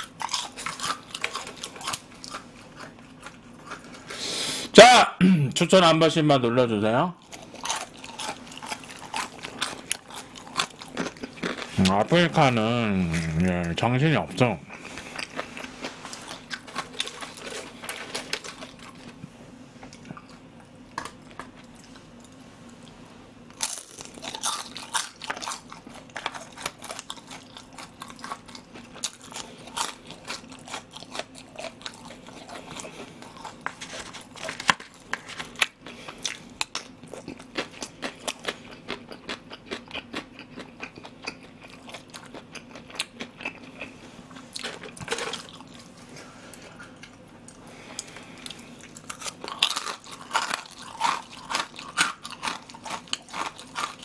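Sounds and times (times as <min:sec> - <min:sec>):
crunching fried food: 0:00.0 - 0:04.2, 0:07.2 - 0:13.8, 0:14.7 - 0:19.2, 0:22.8 - 0:54.0.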